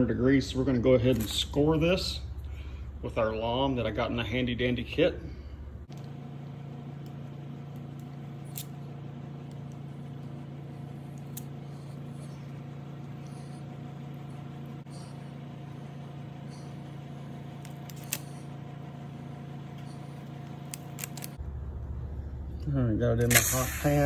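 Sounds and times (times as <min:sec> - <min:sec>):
motor or fan humming: 0:00.0 - 0:24.0.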